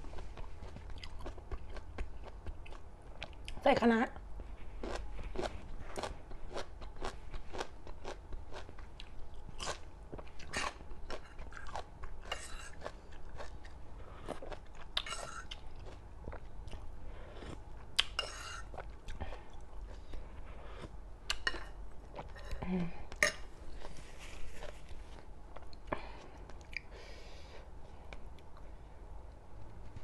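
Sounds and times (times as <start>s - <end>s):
close chewing with crisp crunches: 0.0s - 3.6s, 4.4s - 22.6s, 23.2s - 26.9s.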